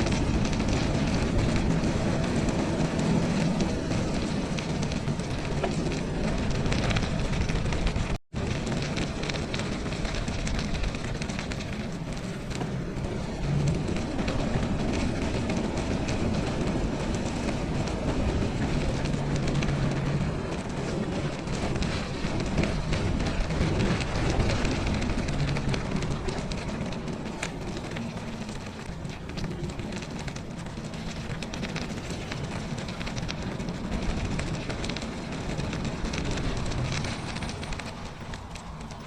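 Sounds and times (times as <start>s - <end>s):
bicycle tyres rushing: 0.0s - 39.0s
small rattles and crunches: 0.0s - 39.0s.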